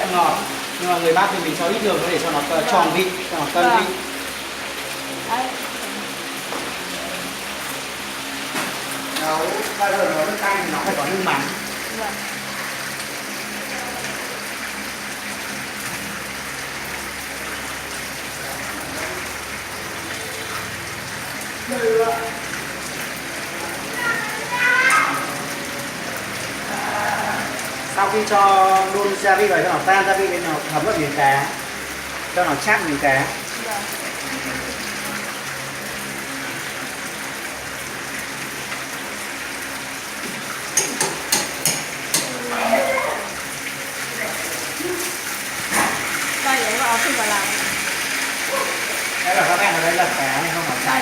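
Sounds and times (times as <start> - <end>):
soup boiling and bubbling: 5.9 - 51.0.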